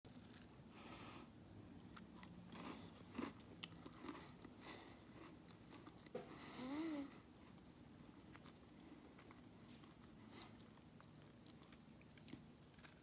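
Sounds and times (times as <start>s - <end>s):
person chewing food: 1.8s - 13.0s.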